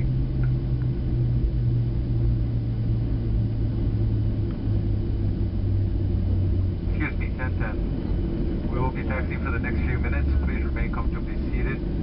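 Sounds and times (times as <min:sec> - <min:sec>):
airliner cabin rumble: 0:00.0 - 0:12.0
deep jet engine hum: 0:00.0 - 0:12.0.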